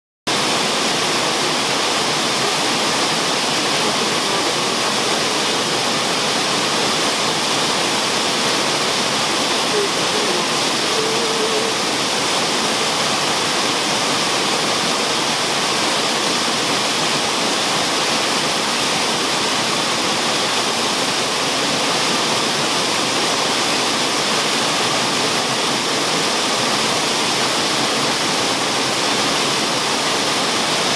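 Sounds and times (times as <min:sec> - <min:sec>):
waterfall rushing: 0:00.3 - 0:30.9.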